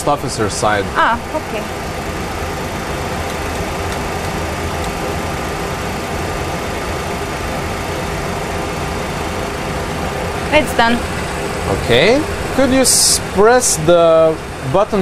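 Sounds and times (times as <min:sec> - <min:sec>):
jet cockpit engine drone: 0:00.0 - 0:15.0.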